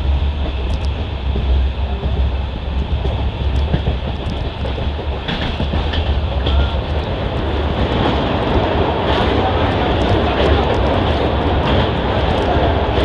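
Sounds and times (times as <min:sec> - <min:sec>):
train wheels rumbling on track: 0:00.0 - 0:13.0
light wheel clacks: 0:00.4 - 0:13.0.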